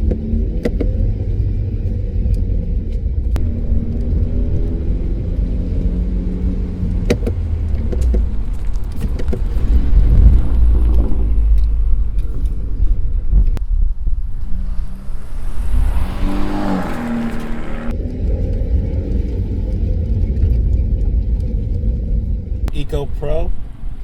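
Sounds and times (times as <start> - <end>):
car engine running: 0.0 - 23.5.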